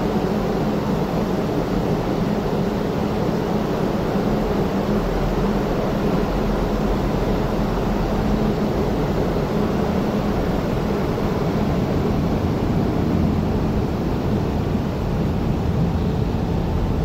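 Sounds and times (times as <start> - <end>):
constant hum: 0.0 - 17.0
train rumbling: 0.0 - 17.0.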